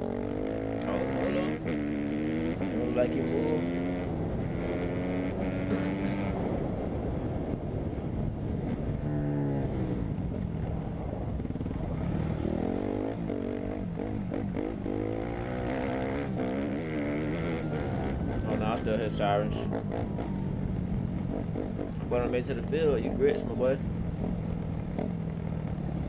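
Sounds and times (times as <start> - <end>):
dirt bike engine revving: 0.0 - 6.8, 8.6 - 10.1, 11.6 - 26.0.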